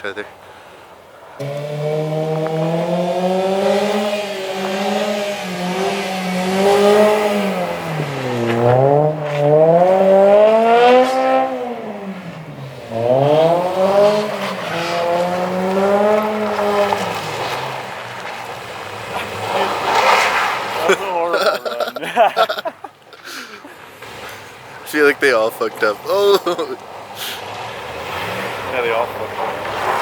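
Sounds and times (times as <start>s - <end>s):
car engine revving: 1.4s - 22.2s, 24.0s - 30.0s.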